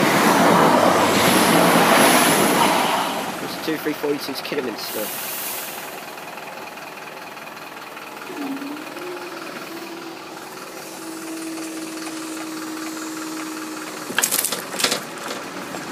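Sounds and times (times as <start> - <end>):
diesel train passing: 0.0 - 15.9
held engine tone: 0.0 - 15.9.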